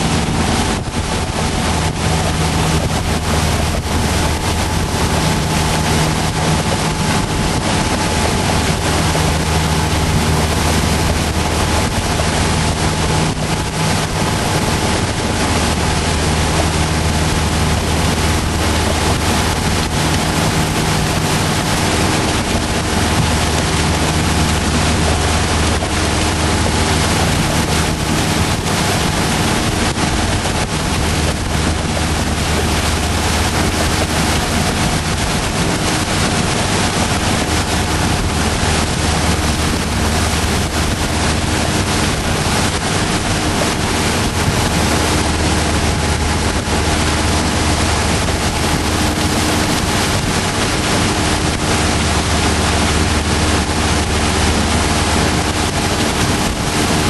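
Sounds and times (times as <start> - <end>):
churning wake: 0.0 - 57.0
motorboat engine running: 0.0 - 57.0
wind on microphone: 0.0 - 57.0.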